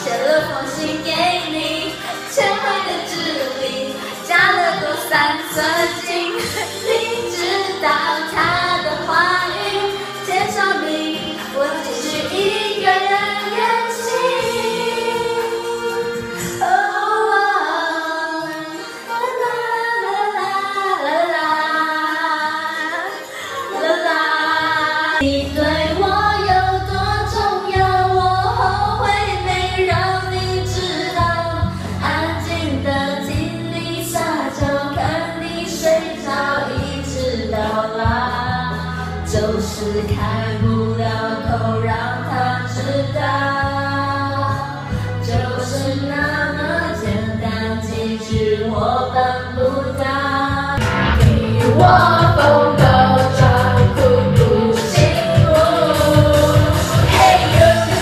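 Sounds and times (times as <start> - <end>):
music backing track: 0.0 - 58.0
women singing karaoke: 0.0 - 58.0.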